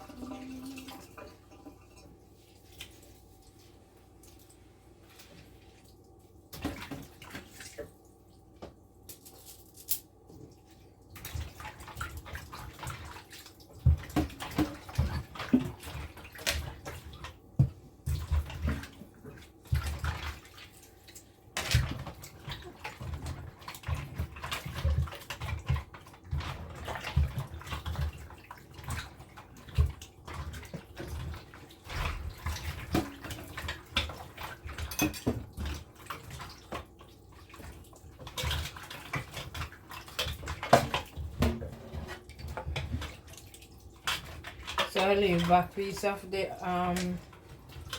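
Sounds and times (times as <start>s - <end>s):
water splashing and sloshing: 0.0s - 47.9s.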